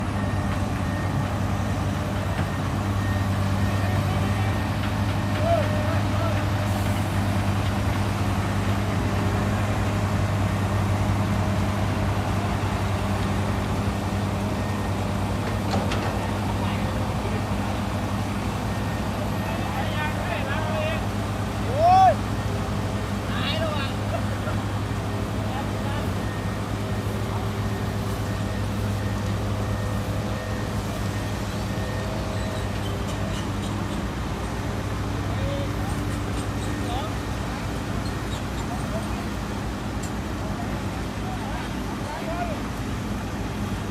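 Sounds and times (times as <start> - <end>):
truck engine running: 0.0 - 43.9.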